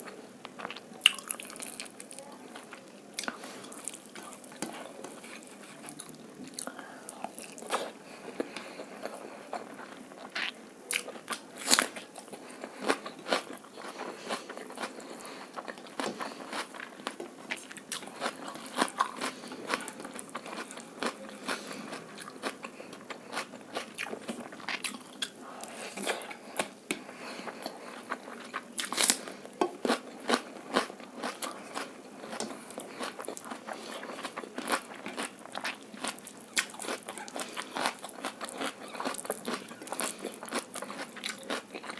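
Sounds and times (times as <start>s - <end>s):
crunchy chewing and biting: 0.6s - 41.9s.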